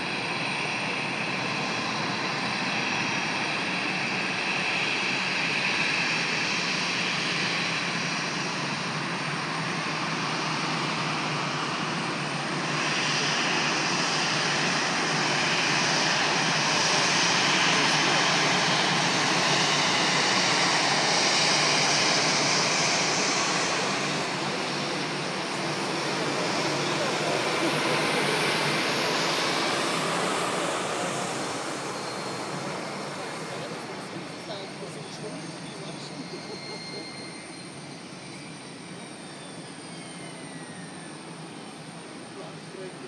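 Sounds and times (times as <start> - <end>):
jet engines taxiing: 0.0 - 43.0
faint high whine: 8.4 - 43.0.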